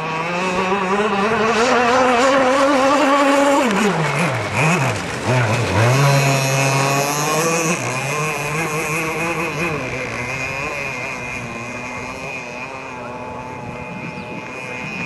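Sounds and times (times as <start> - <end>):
high-revving model boat engine: 0.0 - 15.0.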